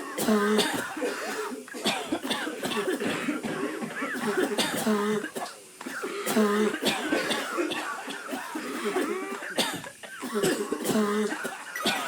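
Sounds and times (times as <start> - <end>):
person coughing: 0.0 - 12.0.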